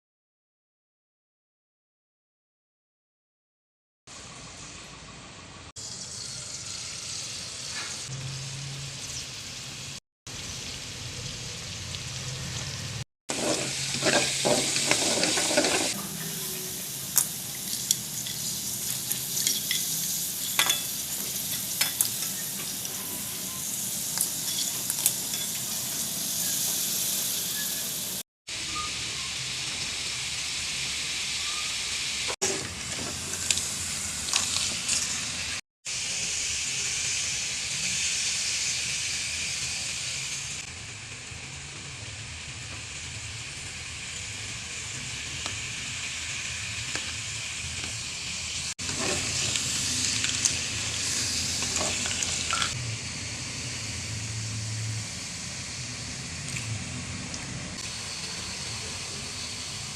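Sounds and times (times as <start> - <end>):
food sizzling in hot oil: 5.8 - 59.9.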